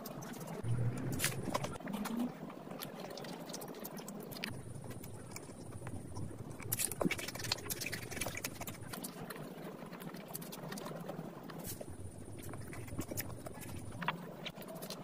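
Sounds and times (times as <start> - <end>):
crunching pastry chewing: 0.0 - 15.0.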